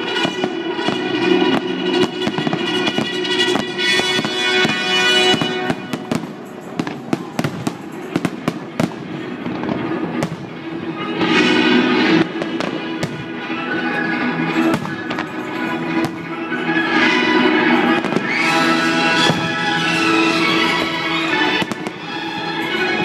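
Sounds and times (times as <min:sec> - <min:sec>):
fireworks bangs and cracks: 0:00.0 - 0:23.0
music playing: 0:00.0 - 0:23.0.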